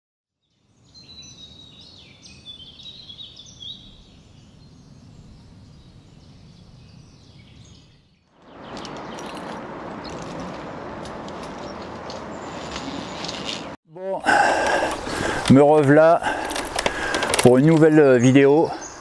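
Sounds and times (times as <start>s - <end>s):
birds chirping: 0.5s - 10.4s, 11.5s - 19.0s.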